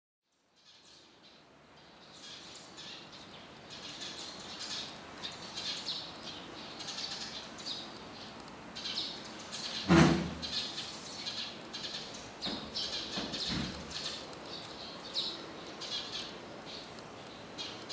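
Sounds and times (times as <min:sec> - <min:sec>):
small birds chirping: 0:00.3 - 0:17.9.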